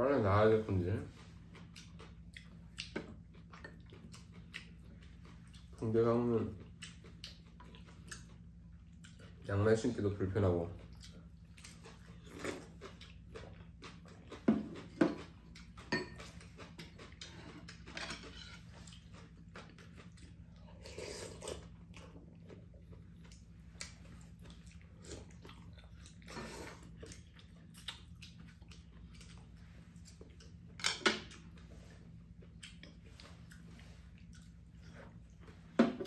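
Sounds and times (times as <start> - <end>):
low steady hum: 0.0 - 36.0
people chewing: 0.9 - 9.5, 10.6 - 35.9.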